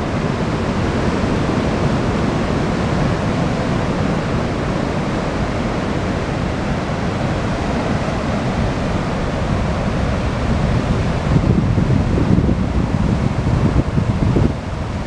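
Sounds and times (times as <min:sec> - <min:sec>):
ocean surf washing on sand: 0:00.0 - 0:15.0.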